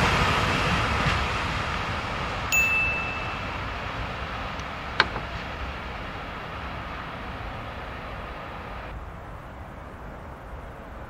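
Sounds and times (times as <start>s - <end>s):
freight train rolling: 0.0s - 11.0s.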